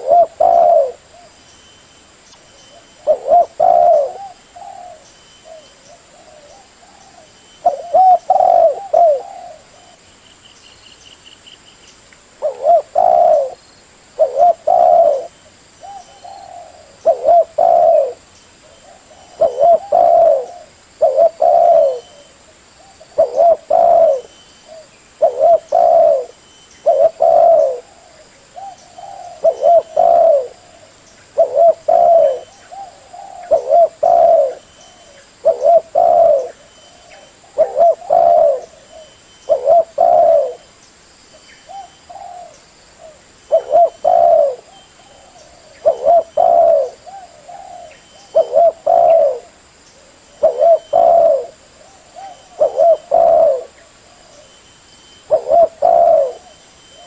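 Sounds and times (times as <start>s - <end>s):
dove cooing: 0.0s - 1.4s, 2.7s - 10.0s, 12.4s - 13.6s, 14.2s - 40.7s, 41.6s - 54.6s, 55.2s - 57.0s.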